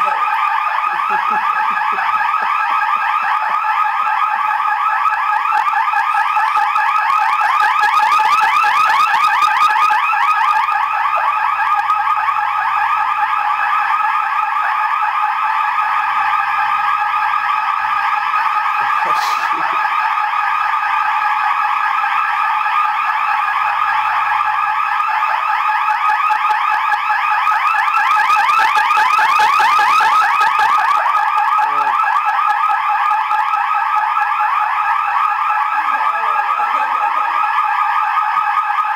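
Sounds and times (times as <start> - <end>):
fire alarm shrill pulsing: 0.0 - 38.9.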